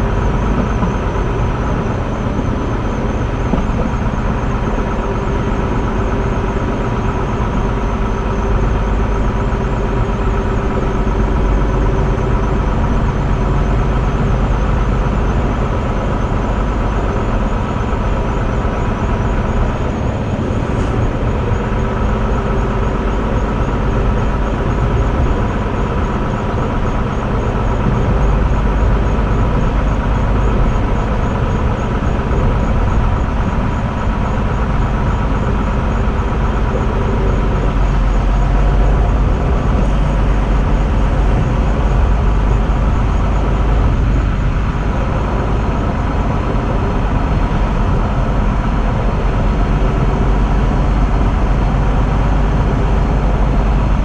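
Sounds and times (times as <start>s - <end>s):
mechanical hum: 0.0s - 54.0s
train wheels rumbling on rail: 0.0s - 54.0s.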